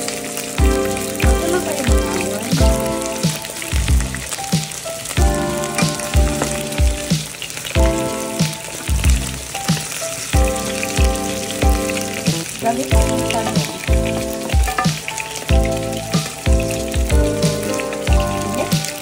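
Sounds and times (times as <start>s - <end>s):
background music with beat: 0.0s - 19.0s
food sizzling in oil: 0.0s - 19.0s.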